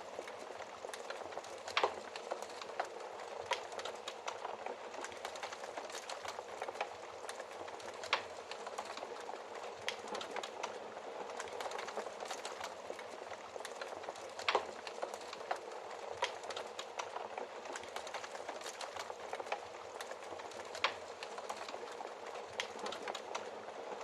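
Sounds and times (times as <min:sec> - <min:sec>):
wood fire crackling: 0:00.0 - 0:24.0
fire popping: 0:00.1 - 0:23.6.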